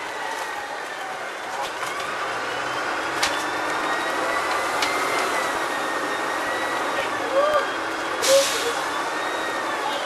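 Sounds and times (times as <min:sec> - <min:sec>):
bus engine running: 0:00.0 - 0:10.0
high drivetrain whine: 0:00.0 - 0:10.0.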